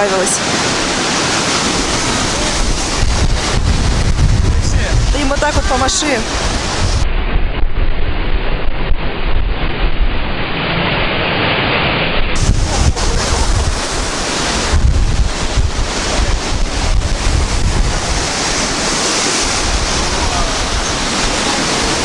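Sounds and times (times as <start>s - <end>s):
wind buffeting microphone: 0.0s - 11.2s, 12.0s - 22.0s
surf breaking on shore: 0.0s - 22.0s.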